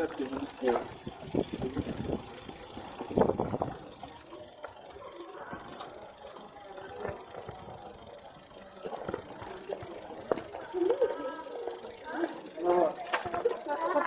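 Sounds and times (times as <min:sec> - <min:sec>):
low street noise: 0:00.0 - 0:14.0
voices of passers-by: 0:00.0 - 0:14.0.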